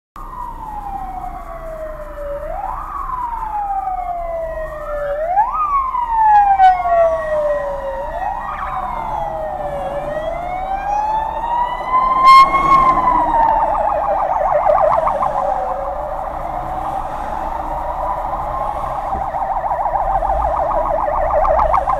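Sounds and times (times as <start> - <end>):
police sirens wailing: 0.2 - 21.9
siren warbling yelp: 0.2 - 21.9.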